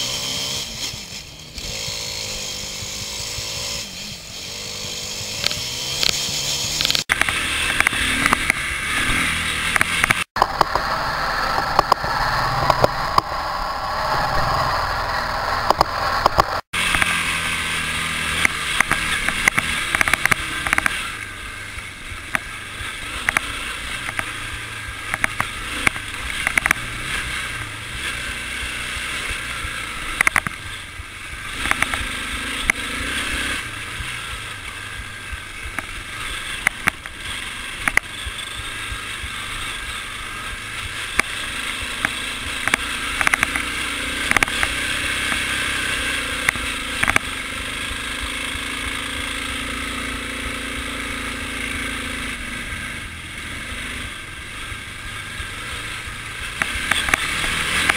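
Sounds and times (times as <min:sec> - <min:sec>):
atv engine running: 0:00.0 - 0:57.9.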